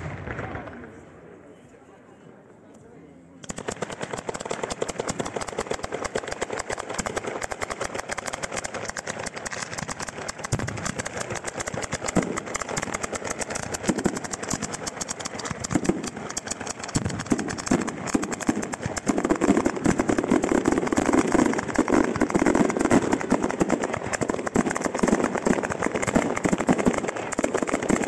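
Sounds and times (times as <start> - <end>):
deep firework bangs: 0.0 - 1.0, 3.8 - 28.0
firecrackers crackling: 0.0 - 1.0, 3.4 - 28.0.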